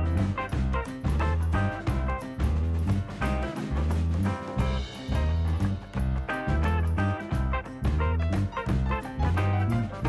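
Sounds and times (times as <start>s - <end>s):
jazzy background music: 0.0s - 10.0s.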